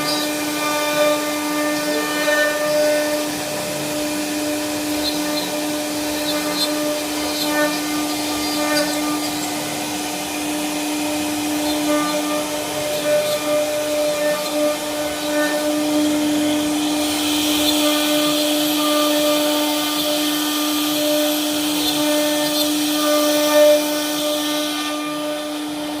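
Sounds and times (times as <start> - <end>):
hissing cutting noise: 0.0 - 21.0
router spindle high whine: 0.0 - 26.0.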